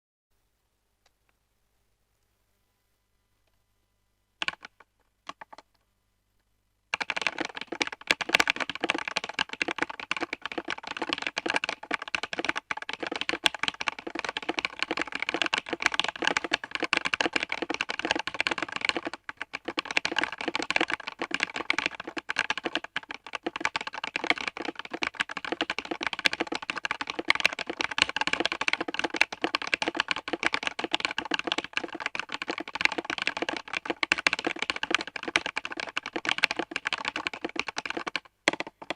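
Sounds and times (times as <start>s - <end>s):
mechanical keyboard typing: 4.4s - 5.7s, 6.9s - 38.9s.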